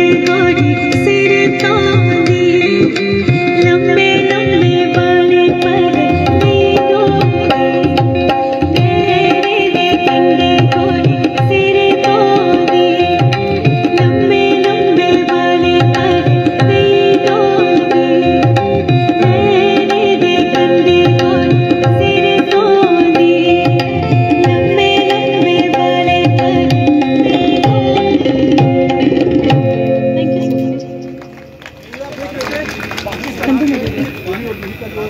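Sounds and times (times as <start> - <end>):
woman singing: 0.0 - 28.9
hand drums: 0.0 - 34.8.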